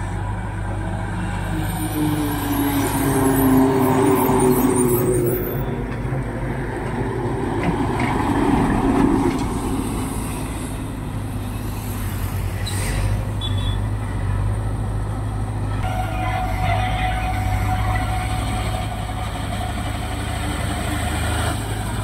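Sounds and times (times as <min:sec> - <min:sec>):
heavy trucks driving past: 0:00.0 - 0:22.0.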